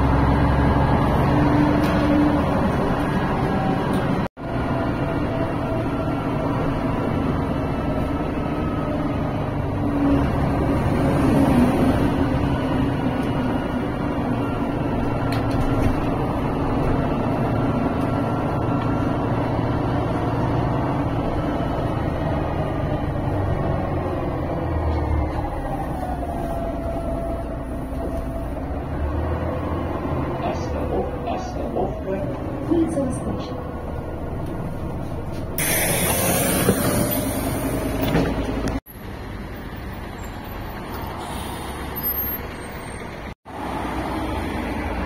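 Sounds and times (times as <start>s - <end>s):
bus engine rumble: 0.0s - 45.0s.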